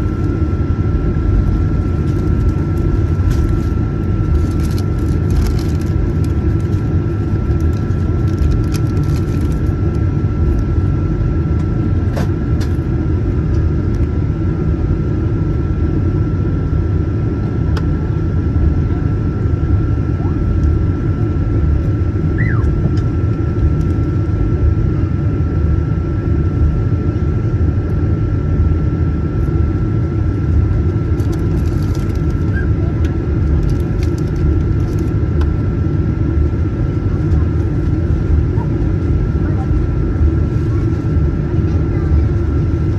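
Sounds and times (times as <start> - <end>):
aircraft cabin rumble: 0.0 - 42.9
thin steady whine: 0.0 - 42.9.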